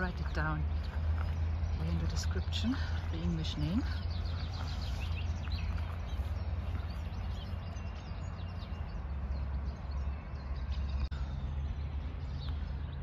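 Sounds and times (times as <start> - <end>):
deep background rumble: 0.0 - 13.0
songbirds chirping: 0.0 - 13.0.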